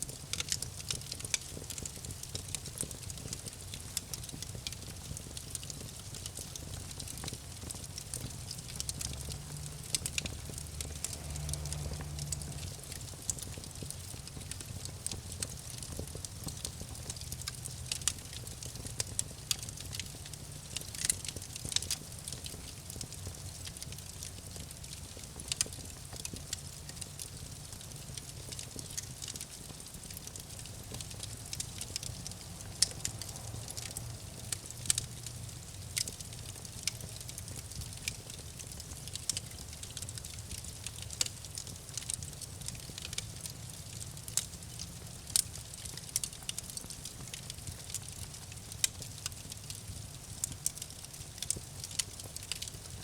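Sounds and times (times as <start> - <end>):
campfire crackling and popping: 0.0 - 53.0
low rumble of flames: 0.0 - 53.0.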